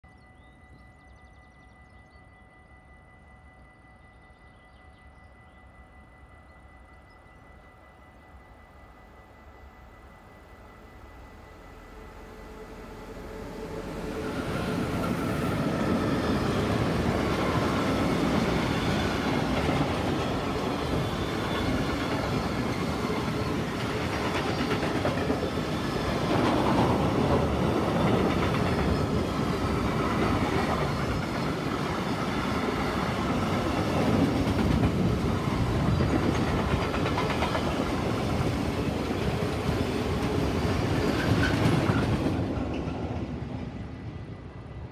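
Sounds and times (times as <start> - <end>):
freight train wheels on rails: 1.6 - 44.9.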